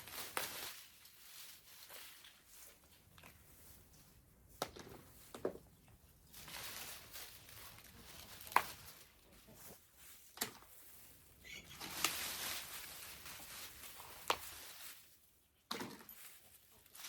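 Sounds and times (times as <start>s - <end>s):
vines and leaves rustling: 0.0s - 4.3s, 5.0s - 17.0s.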